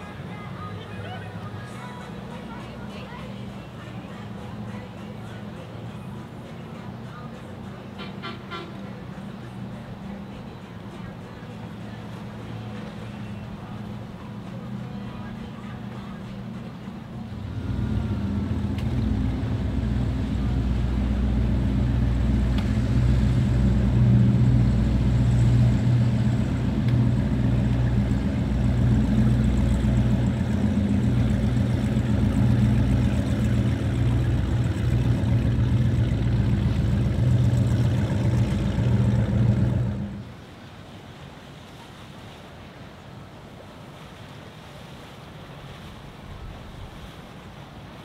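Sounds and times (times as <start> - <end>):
motorboat engine humming: 0.0 - 43.8.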